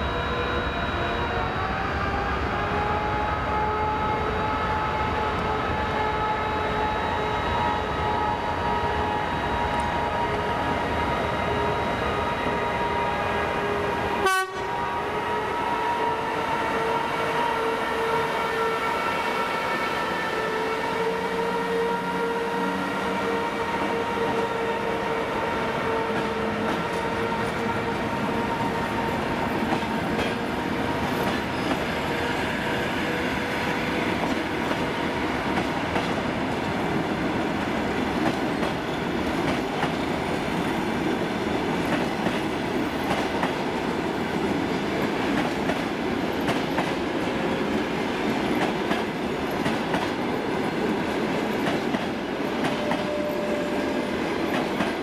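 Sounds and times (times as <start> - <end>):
train coaches rumbling past: 0.0 - 55.0.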